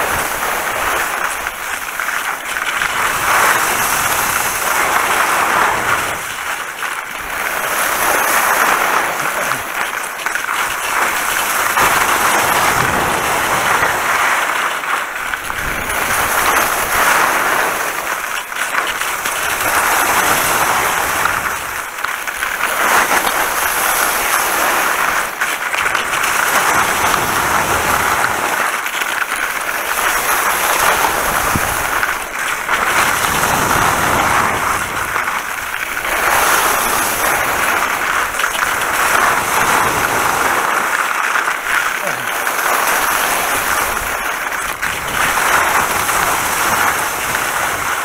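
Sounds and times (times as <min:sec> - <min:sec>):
skis hissing over wet snow: 0:00.0 - 0:48.0.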